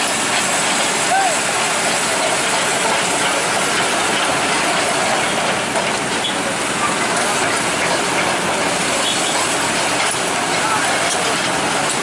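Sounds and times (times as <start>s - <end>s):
excavator tracks clattering: 0.0s - 12.0s.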